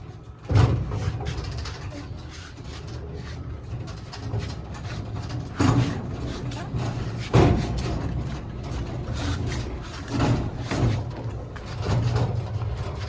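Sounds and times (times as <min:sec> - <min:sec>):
tool box rolling on casters: 0:00.0 - 0:13.0.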